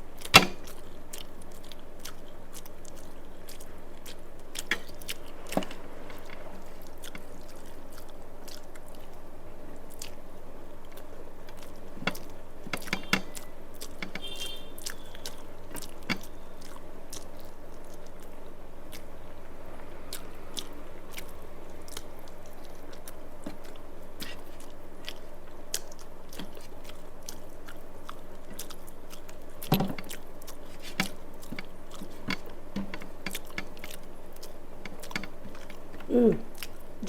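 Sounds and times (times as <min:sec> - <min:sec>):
chewing and mouth clicks: 0:00.0 - 0:37.0
steady low hum: 0:00.0 - 0:37.0.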